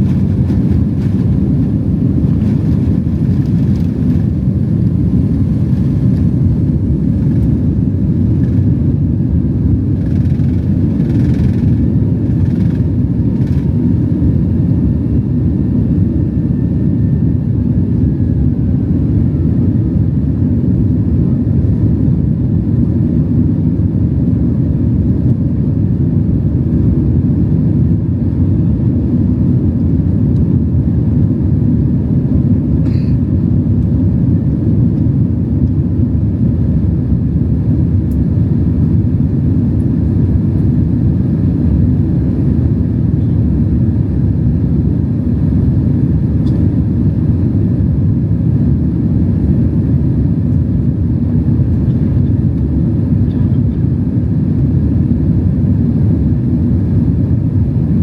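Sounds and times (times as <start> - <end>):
jet engines roaring in cabin: 0.0 - 58.0.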